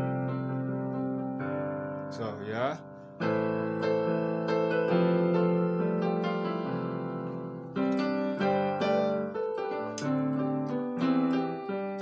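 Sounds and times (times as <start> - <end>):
keyboard gospel chords: 0.0 - 12.0.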